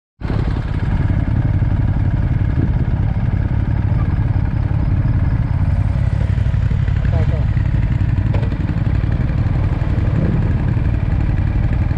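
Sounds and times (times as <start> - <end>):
motorcycle engine running: 0.2 - 11.9.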